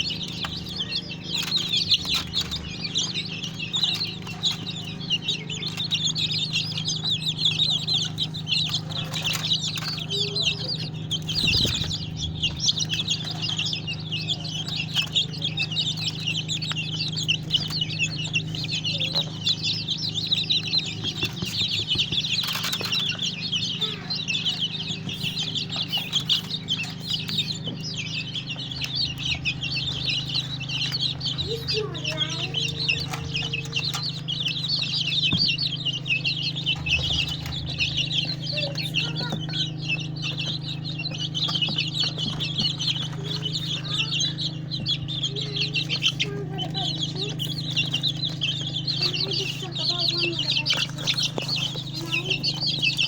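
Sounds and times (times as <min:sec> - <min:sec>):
chicks cheeping: 0:00.0 - 0:53.0
steady low hum: 0:00.0 - 0:53.0.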